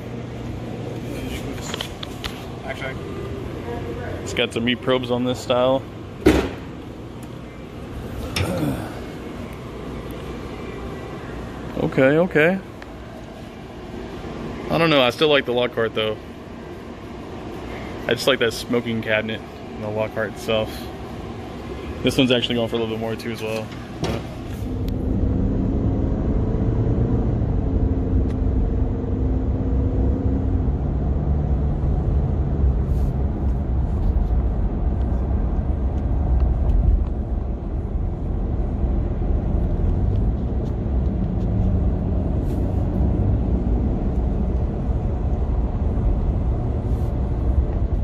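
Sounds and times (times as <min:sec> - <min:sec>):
car engine and tyre rumble: 0:00.0 - 0:48.0
faint steady hum: 0:00.0 - 0:48.0.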